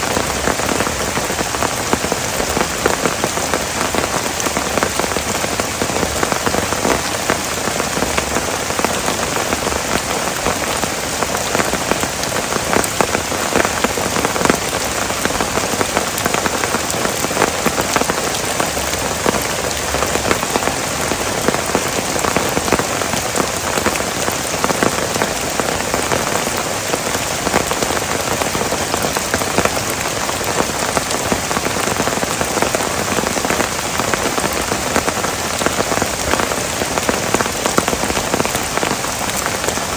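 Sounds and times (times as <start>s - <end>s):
heavy rain pouring: 0.0s - 39.9s
raindrops ticking close by: 0.0s - 39.9s.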